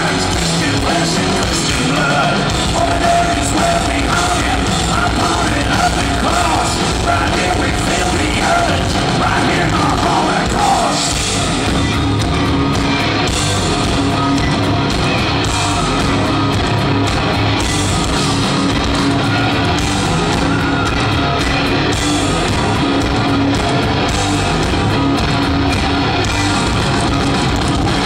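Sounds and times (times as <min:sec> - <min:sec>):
electric guitar: 0:00.0 - 0:28.0
rock band playing live: 0:00.0 - 0:28.0.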